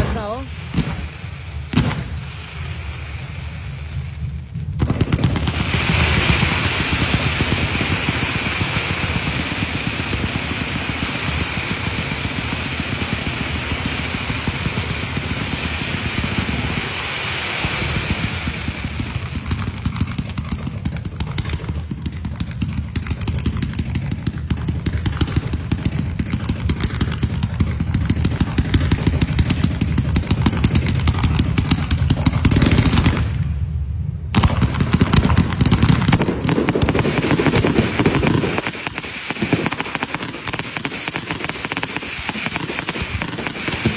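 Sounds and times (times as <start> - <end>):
firecrackers cracking rapidly: 0.0 - 33.5, 34.4 - 43.9.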